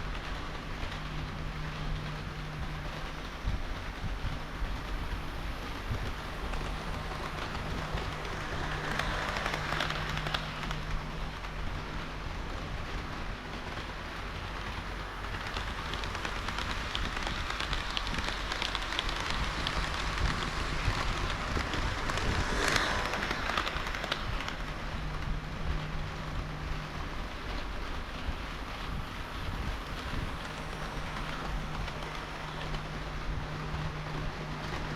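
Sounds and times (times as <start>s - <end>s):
low motor hum: 0.0s - 34.9s
model train wheels clicking: 0.0s - 34.9s.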